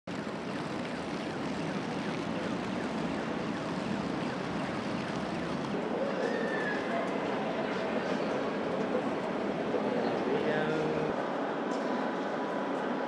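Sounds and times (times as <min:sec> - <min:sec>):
city street traffic hum: 0:00.1 - 0:13.0.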